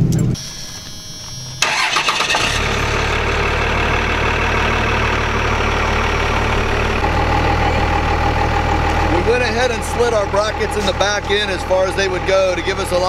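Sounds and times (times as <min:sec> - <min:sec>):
diesel engine idling: 0:01.5 - 0:13.0.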